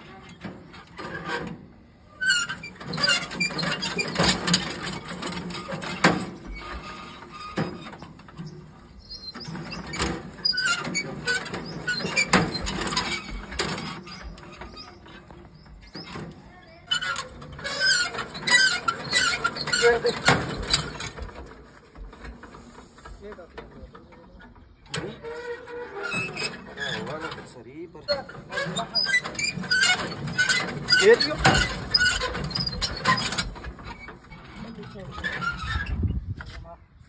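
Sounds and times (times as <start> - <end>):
tractor engine cranking clatter: 0.0 - 36.6.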